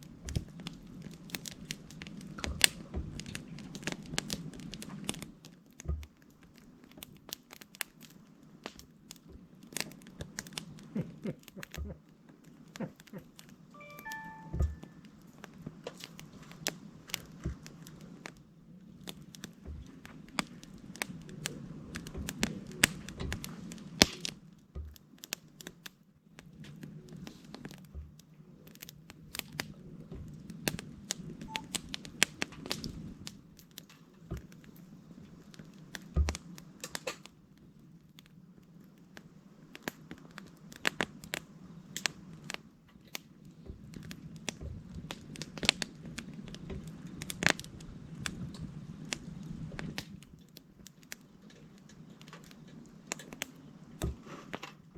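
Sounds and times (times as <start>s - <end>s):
campfire crackling: 0.0s - 54.9s
low background noise: 0.0s - 54.9s.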